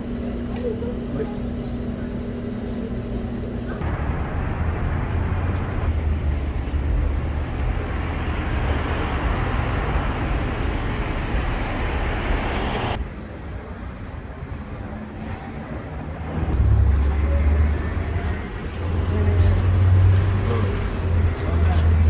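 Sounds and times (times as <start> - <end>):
vehicle road noise: 3.6 - 22.0.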